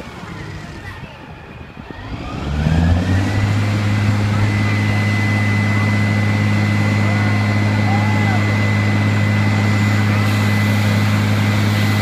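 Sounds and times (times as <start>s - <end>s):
high whine: 0.0s - 12.0s
diesel engine revving: 1.8s - 12.0s.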